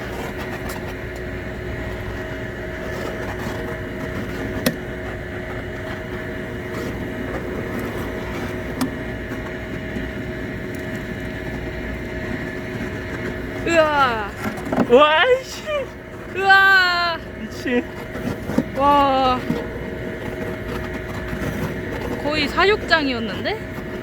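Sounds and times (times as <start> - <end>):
gas torch flame roaring: 0.0 - 24.0.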